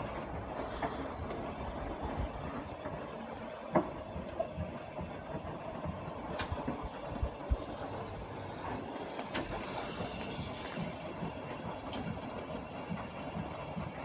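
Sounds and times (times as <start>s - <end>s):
ceiling fan whirring hum: 0.0s - 14.0s.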